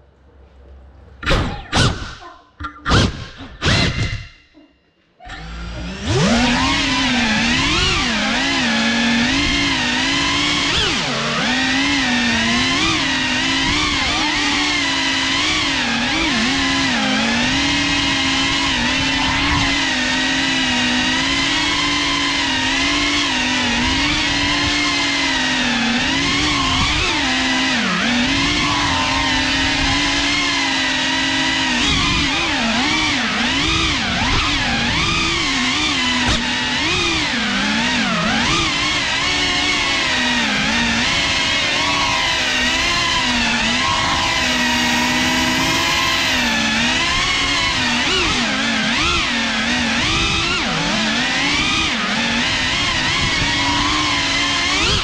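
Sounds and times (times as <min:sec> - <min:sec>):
drone propellers buzzing: 0:05.3 - 0:55.0.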